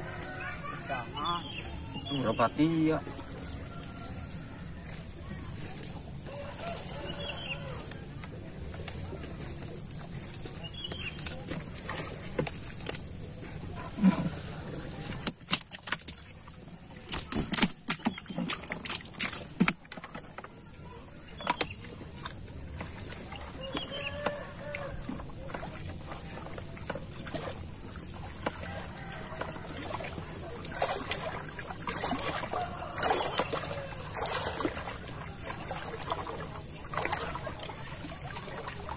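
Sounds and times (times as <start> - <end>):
fish flapping in boat: 3.0 - 38.9.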